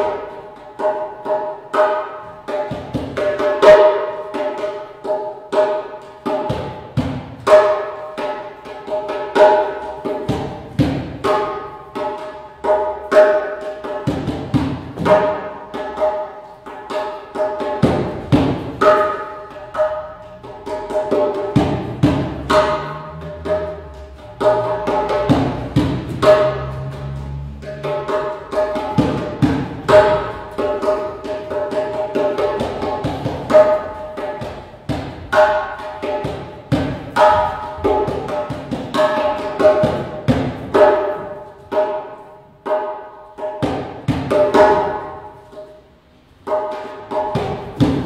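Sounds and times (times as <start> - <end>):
djembe drumming by hand: 0.0 - 48.0.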